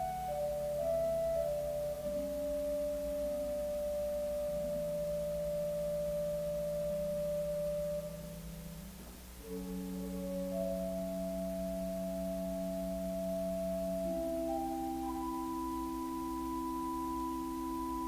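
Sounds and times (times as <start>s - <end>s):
church organ soft chords: 0.0s - 18.0s.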